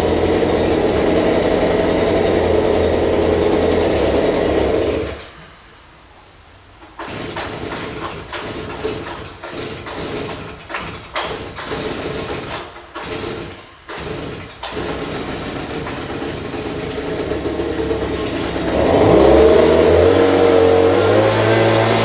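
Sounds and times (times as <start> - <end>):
leaf blower engine running: 0.0 - 5.8, 7.0 - 22.0.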